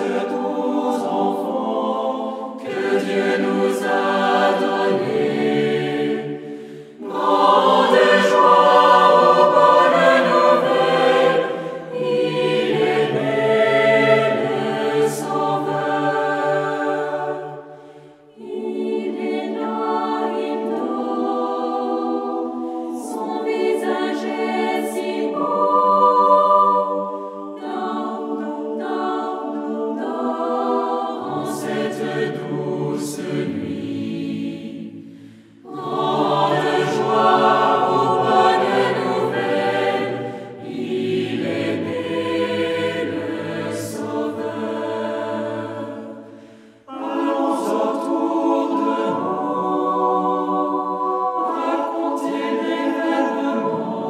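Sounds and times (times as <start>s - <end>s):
choir singing held chords: 0.0s - 54.0s.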